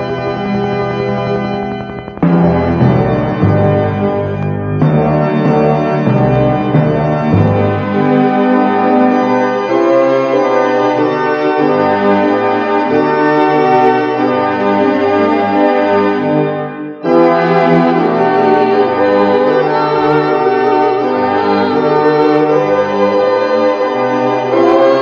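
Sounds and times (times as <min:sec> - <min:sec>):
keyboard organ chords: 0:00.0 - 0:25.0.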